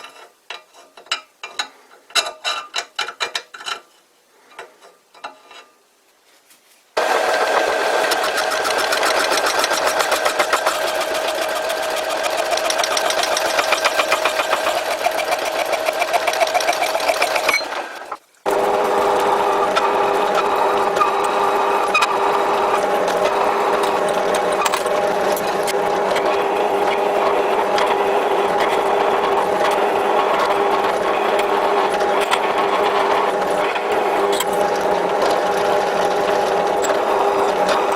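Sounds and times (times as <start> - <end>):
machine tool hum with whine: 7.0 - 37.9
machine tool rhythmic chatter: 7.0 - 37.9.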